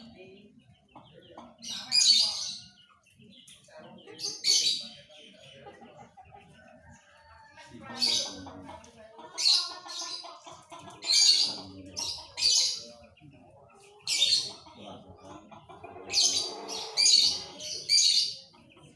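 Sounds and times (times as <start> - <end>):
canary chirping: 0.0 - 18.9
faint background sounds: 0.0 - 18.9.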